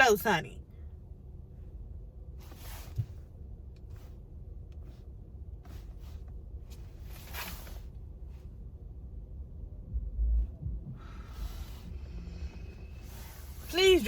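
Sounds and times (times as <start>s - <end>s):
car idling: 0.0s - 14.0s.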